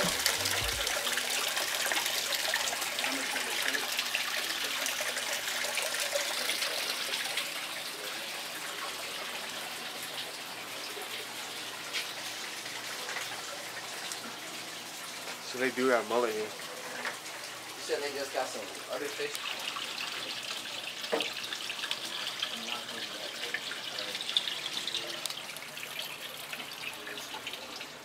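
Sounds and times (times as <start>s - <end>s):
water pouring into a tank: 0.0s - 28.0s.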